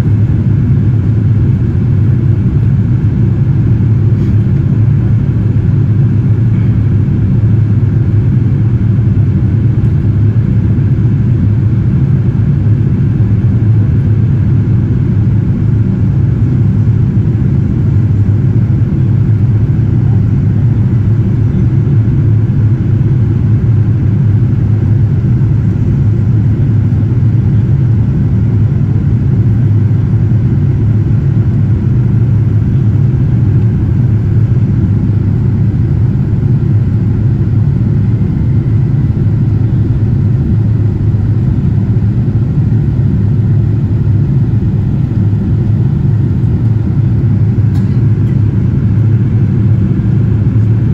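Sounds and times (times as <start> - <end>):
jet engines low rumble: 0.0 - 50.9.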